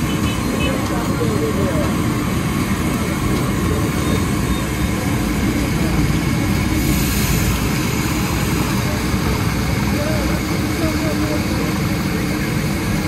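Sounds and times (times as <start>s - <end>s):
fish sizzling in hot oil: 0.0s - 10.8s.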